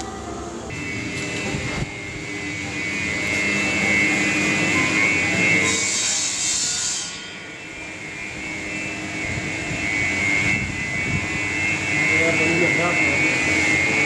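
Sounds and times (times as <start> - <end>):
machine whining: 0.0 - 14.0
rushing noise: 0.0 - 14.0.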